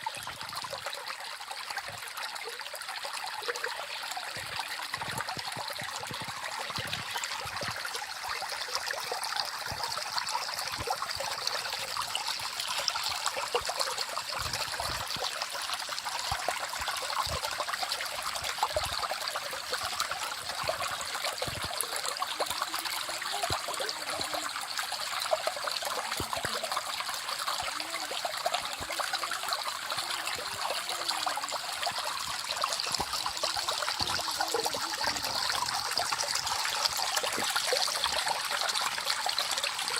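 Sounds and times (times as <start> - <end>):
stream flowing over stones: 0.0 - 39.9
water drips and gurgles: 0.0 - 39.9.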